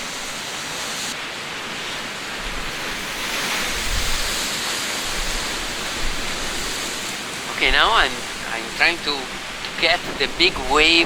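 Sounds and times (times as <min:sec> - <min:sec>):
sea surf breaking on rocks: 0:00.0 - 0:11.0
strong wind on microphone: 0:01.6 - 0:11.0.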